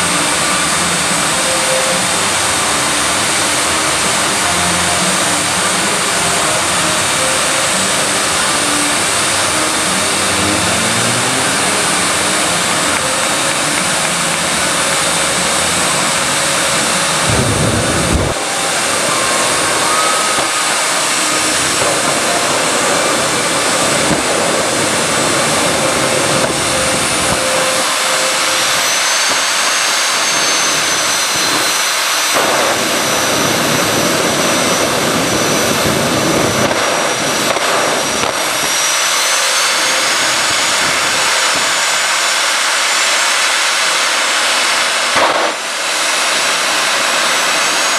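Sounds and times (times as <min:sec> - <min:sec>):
high turbine whine: 0:00.0 - 0:47.9
jet exhaust roar: 0:00.0 - 0:47.9.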